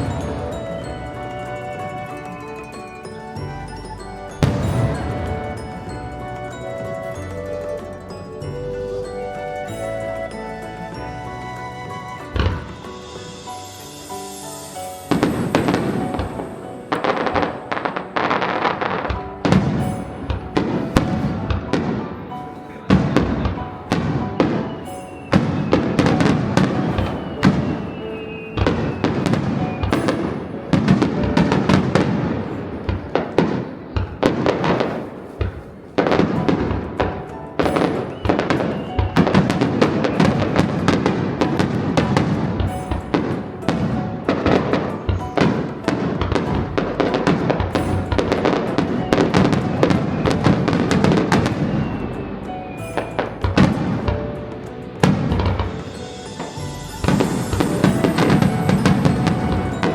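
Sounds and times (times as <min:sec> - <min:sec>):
fireworks booming and crackling: 0:00.0 - 0:08.2, 0:11.8 - 0:59.9
fireworks whistle: 0:00.0 - 0:54.4, 0:55.0 - 0:59.9.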